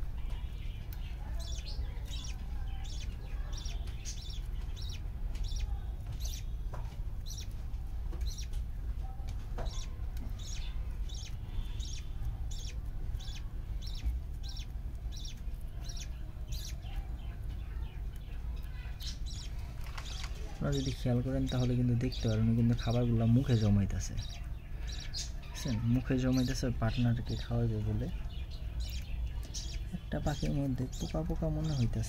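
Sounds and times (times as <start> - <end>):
steady low hum: 0.0 - 32.0
budgerigars chirping: 0.2 - 8.6, 9.6 - 32.0.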